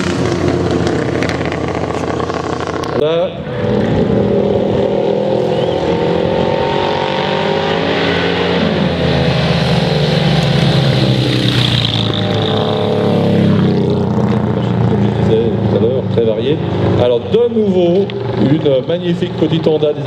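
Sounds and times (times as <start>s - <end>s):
motorcycle engines accelerating: 0.0s - 20.0s.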